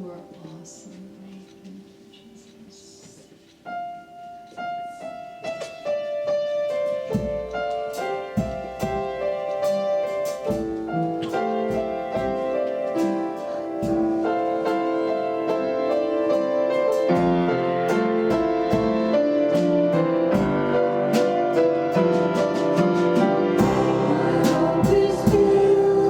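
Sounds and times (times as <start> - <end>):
piano playing worship music: 3.4 - 26.0.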